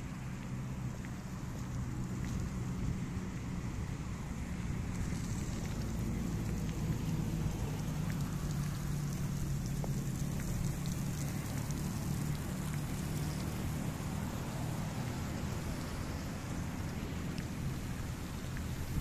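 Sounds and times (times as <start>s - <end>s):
low rumble of wind: 0.0s - 19.0s
sprinklers spraying water: 0.0s - 19.0s.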